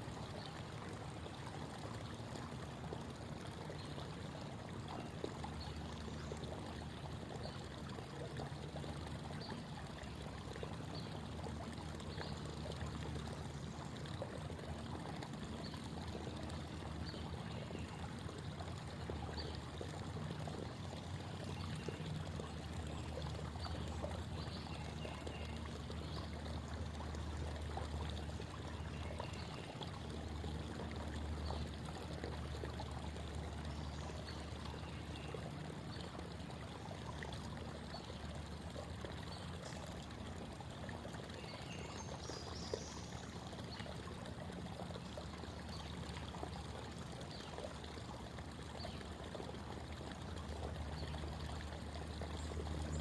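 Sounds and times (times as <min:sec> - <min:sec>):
creek water babbling over rocks: 0:00.0 - 0:53.0.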